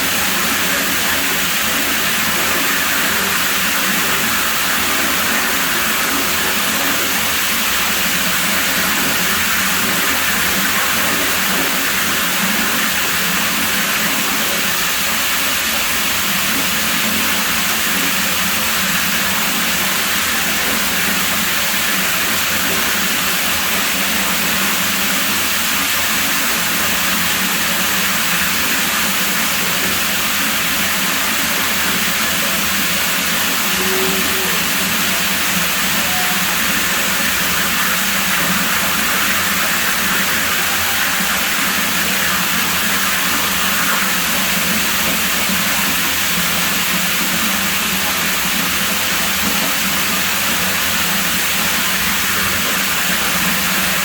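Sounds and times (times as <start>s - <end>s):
pool water running: 0.0s - 54.0s.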